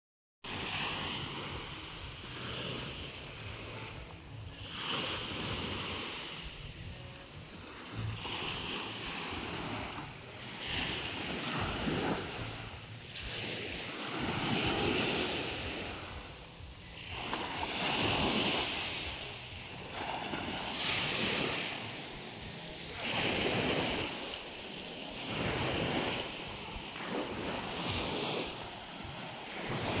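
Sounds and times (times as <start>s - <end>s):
small waves breaking on beach: 0.5s - 30.0s.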